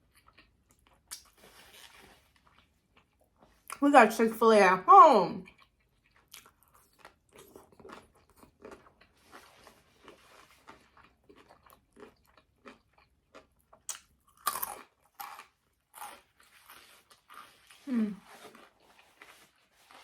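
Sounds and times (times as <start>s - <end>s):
chewing crunchy food: 0.0s - 3.8s, 5.4s - 20.0s.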